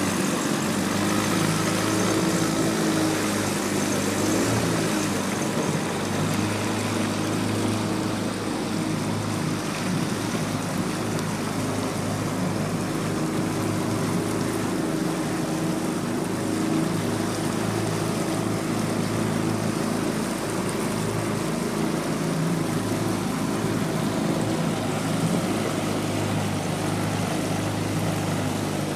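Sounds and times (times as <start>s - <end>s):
boat motor droning: 0.0s - 28.9s
water rushing around hull: 0.0s - 28.9s.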